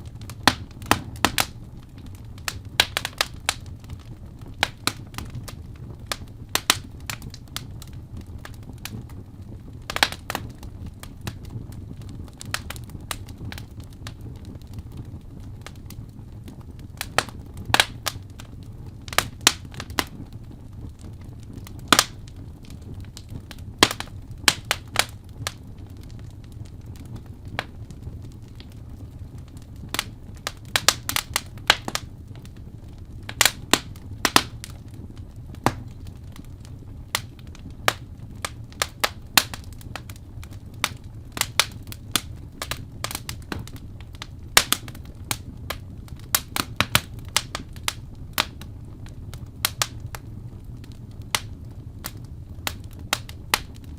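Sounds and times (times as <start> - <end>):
low rumble of flames: 0.0 - 53.9
sharp pops of fire: 0.0 - 53.9
wood fire crackling: 0.0 - 53.9.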